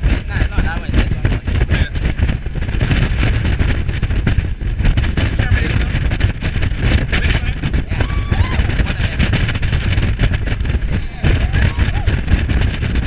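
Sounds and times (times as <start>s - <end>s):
speedboat engine rumble: 0.0s - 13.0s
wind buffeting microphone: 0.0s - 13.0s.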